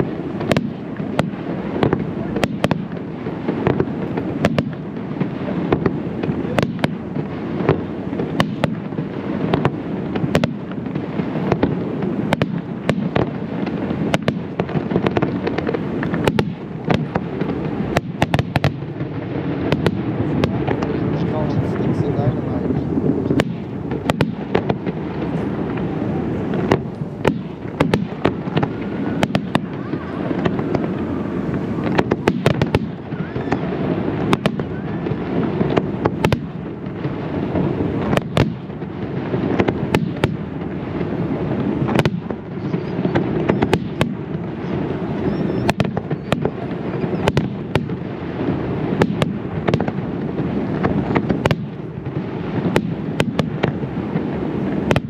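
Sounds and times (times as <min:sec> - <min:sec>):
fireworks booming: 0:00.0 - 0:55.0
sharp firework cracks and bangs: 0:00.0 - 0:55.0.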